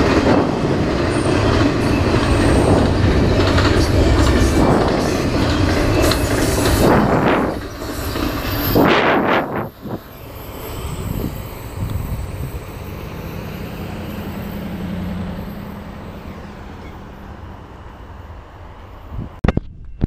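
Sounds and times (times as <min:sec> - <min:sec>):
wheels clattering on rails: 0:00.0 - 0:17.9
freight train rumbling past: 0:00.0 - 0:19.4.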